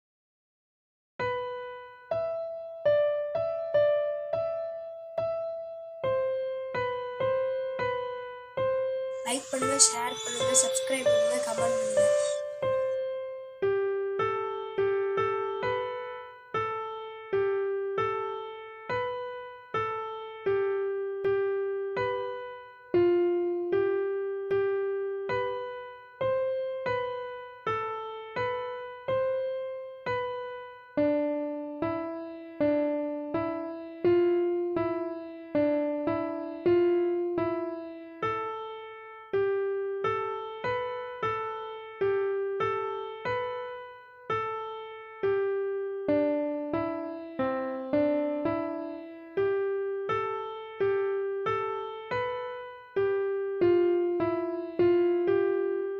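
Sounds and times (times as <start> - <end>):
slow electric piano melody: 1.2 - 55.9.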